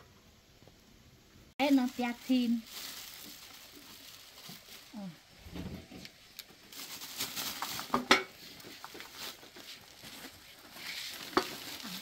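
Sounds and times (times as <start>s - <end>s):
plastic bag rustling: 1.6s - 12.0s.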